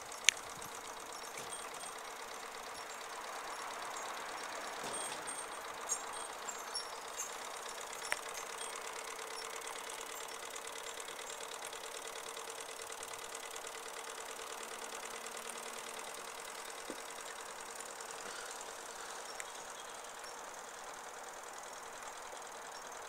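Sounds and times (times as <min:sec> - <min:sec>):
model steam engine chuffing: 0:00.0 - 0:23.0
steady engine hum: 0:00.0 - 0:23.0.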